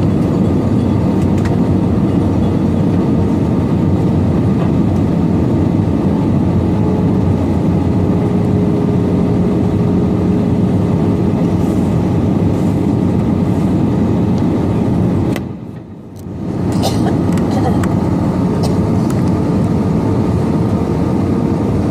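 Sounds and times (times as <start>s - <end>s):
airplane cabin engine rumble: 0.0s - 21.9s.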